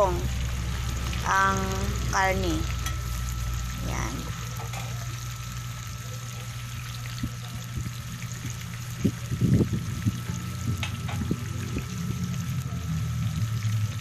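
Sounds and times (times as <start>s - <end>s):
pork sizzling in hot oil: 0.0s - 14.0s.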